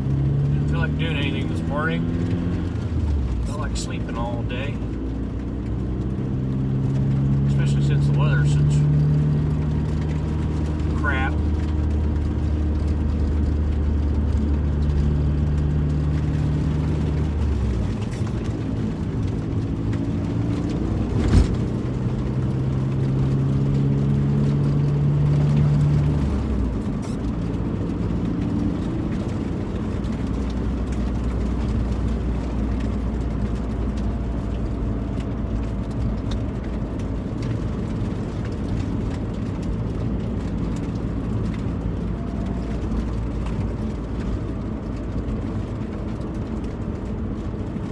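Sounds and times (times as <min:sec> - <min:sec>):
car engine driving: 0:00.0 - 0:47.9
road noise: 0:00.0 - 0:47.9.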